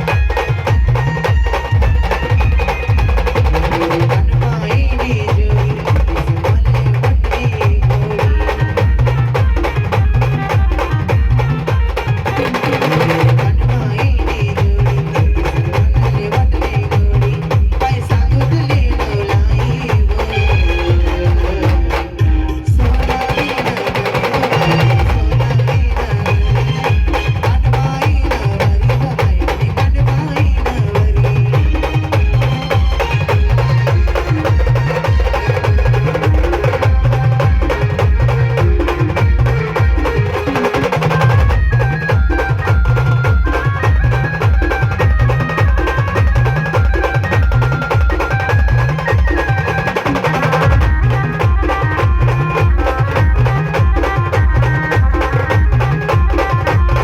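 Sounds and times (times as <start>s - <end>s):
band music with heavy bass beat: 0.0s - 57.0s.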